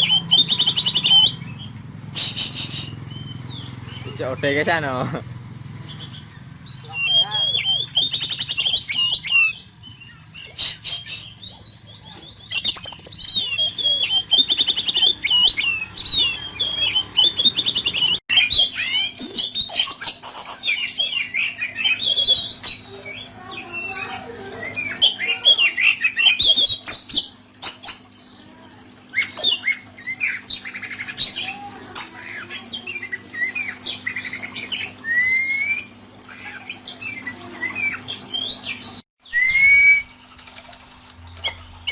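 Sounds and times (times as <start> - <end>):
bird singing rapid chirps and whistles: 0.0 - 5.2, 5.8 - 28.4, 29.1 - 40.6.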